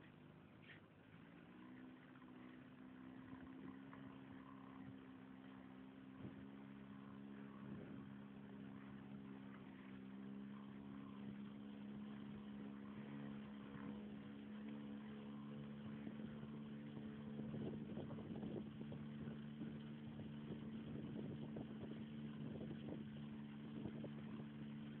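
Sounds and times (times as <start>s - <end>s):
boat engine drone: 0.0s - 25.0s.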